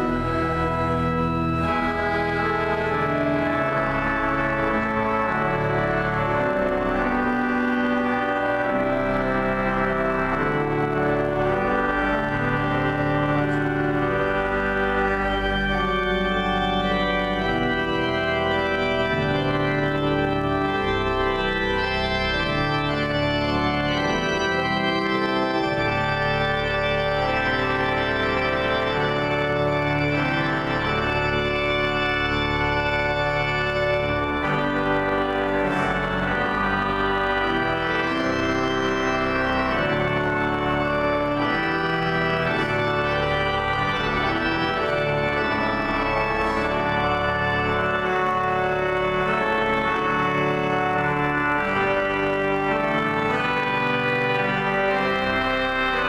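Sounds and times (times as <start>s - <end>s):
pipe organ playing a hymn: 0.0s - 56.0s.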